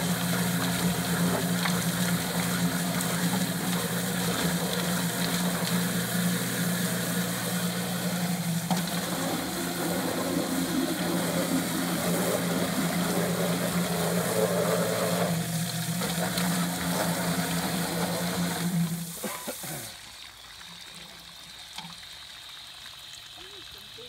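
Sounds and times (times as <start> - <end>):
chicken plucker motor hum: 0.0 - 20.0
drum churning with water: 0.0 - 24.0.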